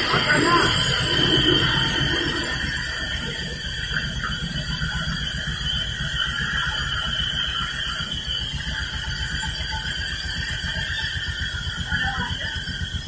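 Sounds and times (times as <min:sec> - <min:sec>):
band saw whine: 0:00.0 - 0:13.0
low machinery rumble: 0:00.0 - 0:13.0.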